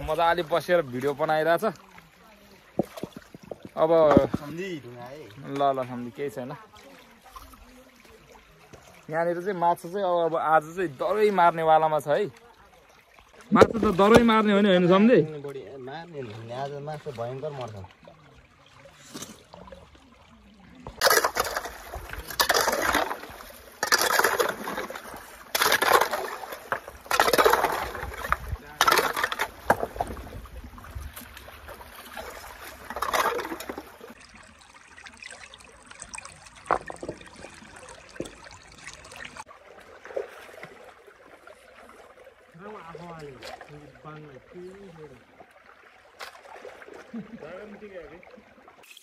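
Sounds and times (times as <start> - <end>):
stream water splashing: 0.0 - 49.0
water trickling: 0.0 - 49.0.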